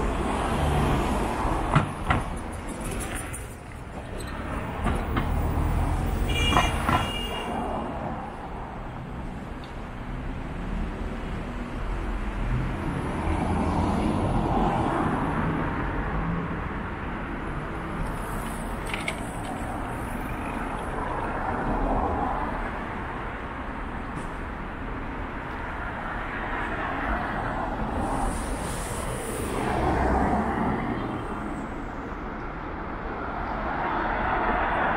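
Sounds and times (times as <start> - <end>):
cars passing: 0.0 - 34.9.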